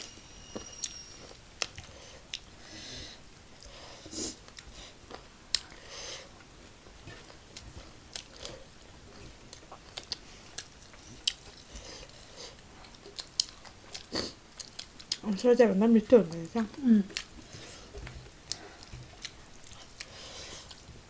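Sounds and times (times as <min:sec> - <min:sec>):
person chewing crunchy food: 0:00.0 - 0:02.5, 0:03.6 - 0:15.2, 0:17.1 - 0:21.0.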